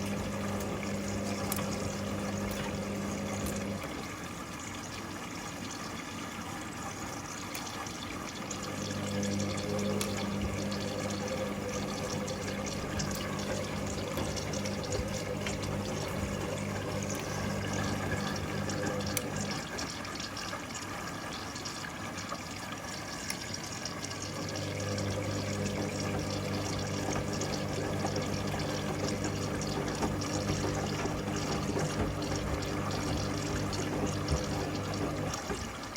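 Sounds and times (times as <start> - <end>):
washing machine motor hum: 0.0 - 35.9
water splashing in washing machine: 0.0 - 35.9.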